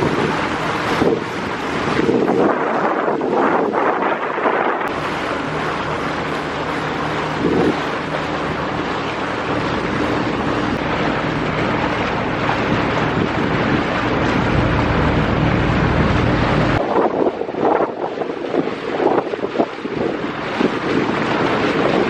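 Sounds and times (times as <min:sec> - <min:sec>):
motorboat engine running: 0:00.0 - 0:22.0
rushing water: 0:00.0 - 0:22.0
wind noise on microphone: 0:00.0 - 0:22.0.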